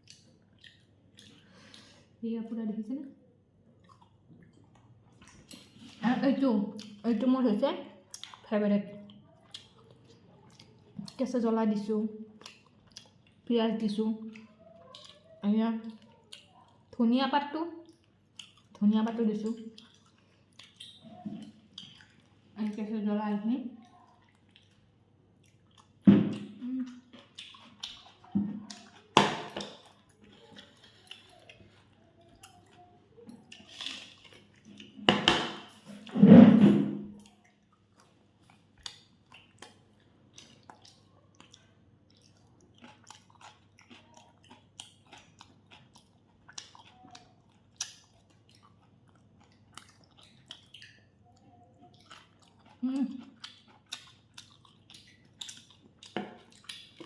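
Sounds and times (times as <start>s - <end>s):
chewing and biting food: 0.0s - 2.0s, 3.6s - 6.0s, 8.0s - 11.3s, 12.2s - 13.5s, 14.2s - 17.0s, 17.8s - 22.9s, 23.8s - 35.9s, 37.1s - 57.0s.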